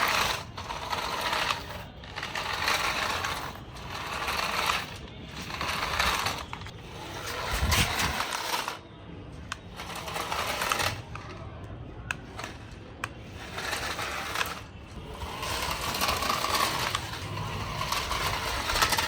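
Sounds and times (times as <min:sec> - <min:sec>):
toy car motor whirring: 0:00.0 - 0:08.8, 0:09.4 - 0:11.4, 0:12.2 - 0:19.0.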